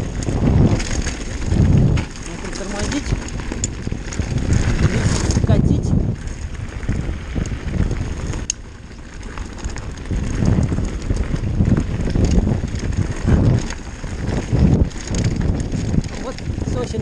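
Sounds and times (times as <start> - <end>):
bike tyres rumbling on rough trail: 0.0 - 17.0
wind noise on microphone: 0.0 - 17.0.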